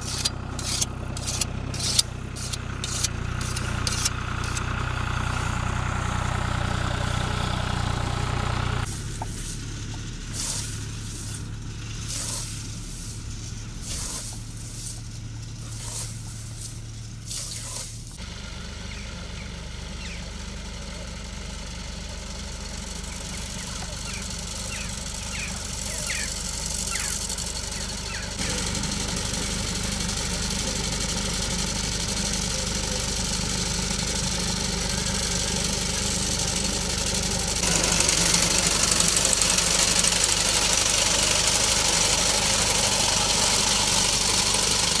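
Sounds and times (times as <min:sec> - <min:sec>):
motor mower cutting grass: 0:00.0 - 0:45.0
tractor engine running: 0:00.0 - 0:45.0.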